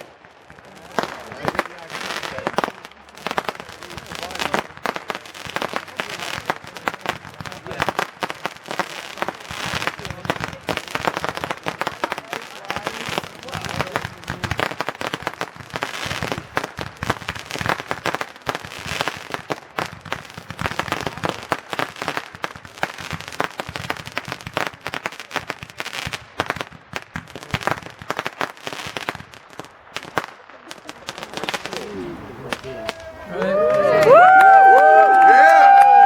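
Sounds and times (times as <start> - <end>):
firework crackling: 0.0 - 36.0.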